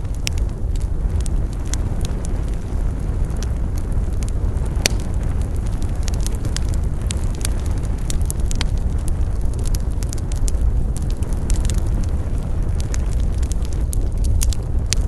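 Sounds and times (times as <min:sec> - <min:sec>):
campfire rumble: 0:00.0 - 0:15.0
crackles and pops of burning wood: 0:00.0 - 0:15.0.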